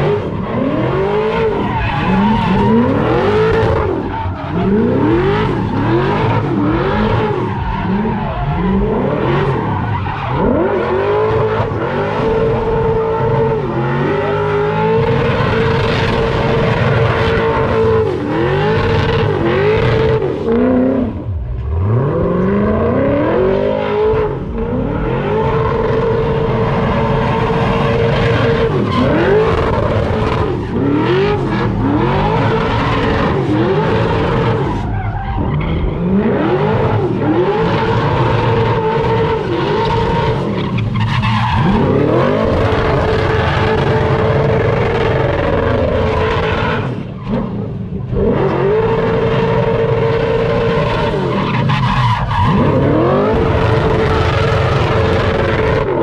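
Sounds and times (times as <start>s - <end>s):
car engine revving: 0.0s - 56.0s
tyres spinning and skidding: 0.0s - 56.0s.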